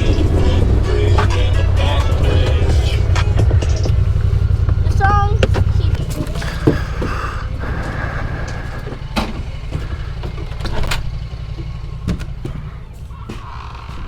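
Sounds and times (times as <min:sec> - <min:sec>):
engine idling rumble: 0:00.0 - 0:14.0.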